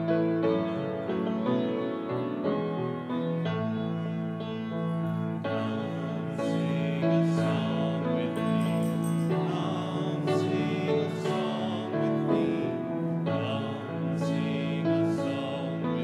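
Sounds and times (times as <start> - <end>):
instrument accompanying: 0.0 - 14.5
congregation singing a hymn: 3.1 - 16.0.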